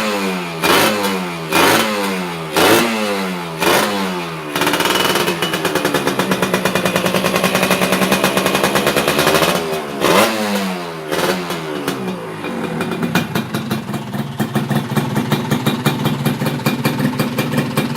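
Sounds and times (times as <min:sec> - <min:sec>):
two-stroke scooter engine revving: 0:00.0 - 0:17.9.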